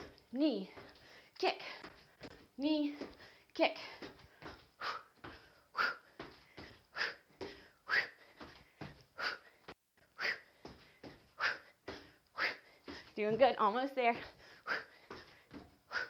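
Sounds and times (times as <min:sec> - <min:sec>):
soft breathing: 0:00.7 - 0:13.2, 0:14.2 - 0:16.0.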